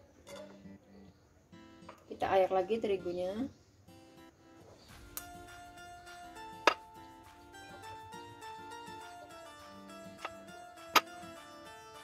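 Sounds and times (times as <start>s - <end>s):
plucked-string melody: 0.2s - 12.0s.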